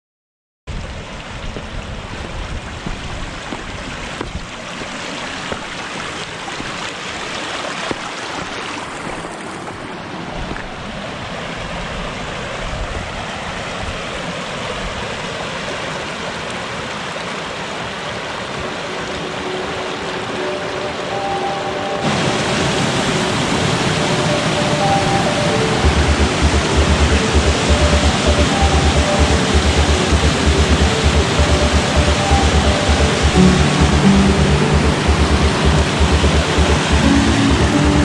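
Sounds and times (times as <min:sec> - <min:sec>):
stream rushing over stones: 0:00.7 - 0:38.0.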